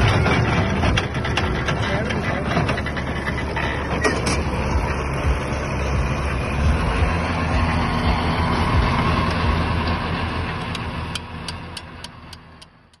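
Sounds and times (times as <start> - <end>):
seeder mechanical noise: 0.0 - 13.0
tractor engine under load: 0.0 - 13.0.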